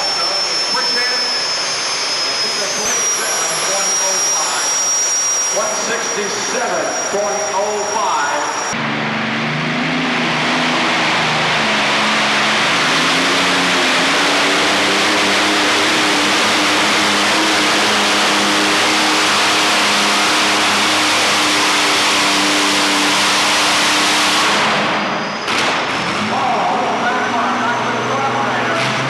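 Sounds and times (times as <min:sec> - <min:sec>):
tractor engine at high revs: 0:00.0 - 0:29.0.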